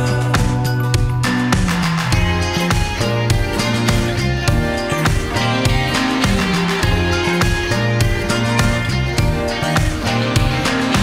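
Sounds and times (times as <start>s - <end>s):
instrumental music with beat and bass: 0.0s - 11.0s.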